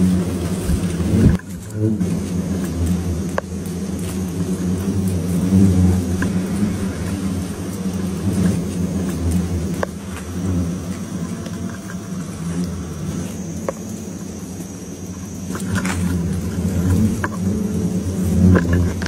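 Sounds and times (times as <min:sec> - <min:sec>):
faint ticks: 0:00.0 - 0:19.0
hornets buzzing: 0:00.0 - 0:19.0.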